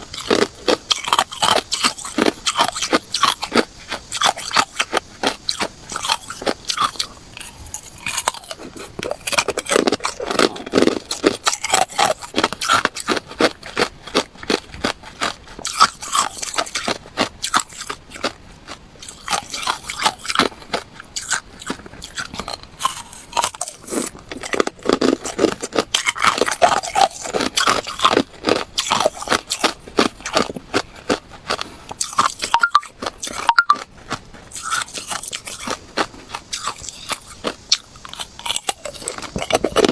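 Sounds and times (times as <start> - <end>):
ice being crunched and chewed: 0.0 - 39.9.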